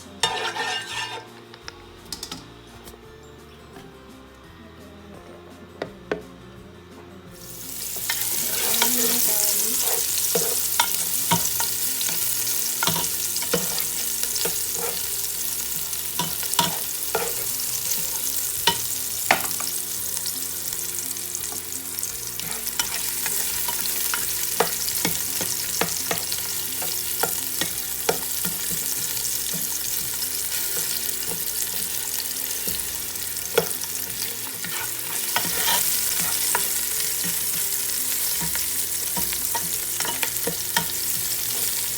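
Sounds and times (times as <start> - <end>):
chicken frying in hot oil: 7.6 - 41.9.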